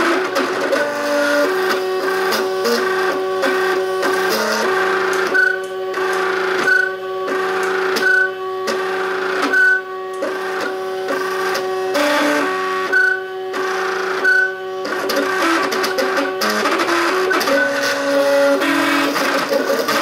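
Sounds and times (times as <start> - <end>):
stepper motor whine: 0.0 - 20.0.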